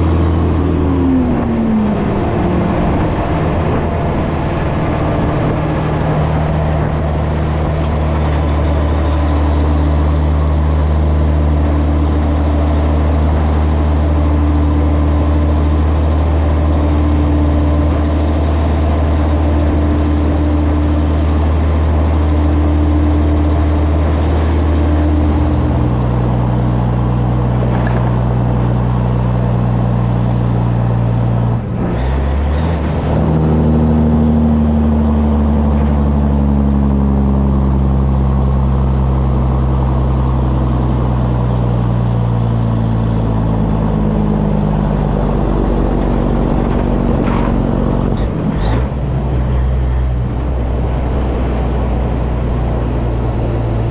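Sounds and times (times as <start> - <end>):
truck diesel engine running: 0.0 - 53.9
wind and road noise: 0.0 - 53.9.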